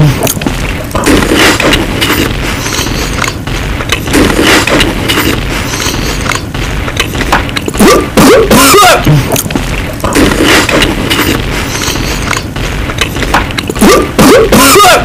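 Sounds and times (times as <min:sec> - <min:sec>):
booms: 0:00.0 - 0:15.0.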